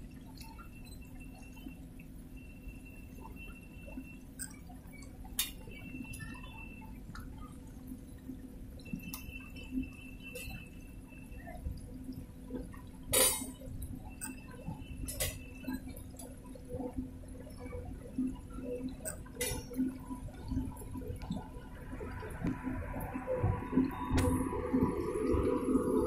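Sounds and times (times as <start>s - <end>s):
faint hum: 0.0s - 26.0s
sharp clicks and drips: 0.0s - 26.0s.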